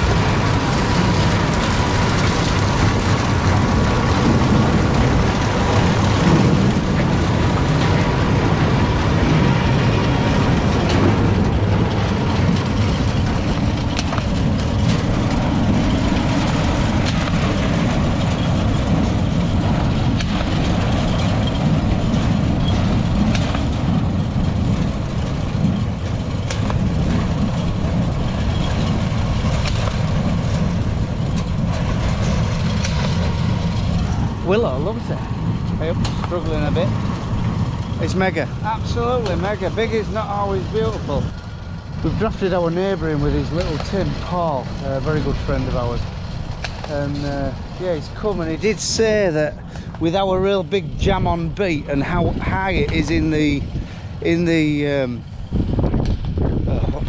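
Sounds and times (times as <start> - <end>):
harvester clattering and rattling: 0.0 - 57.0
tractor engine drone: 0.0 - 57.0.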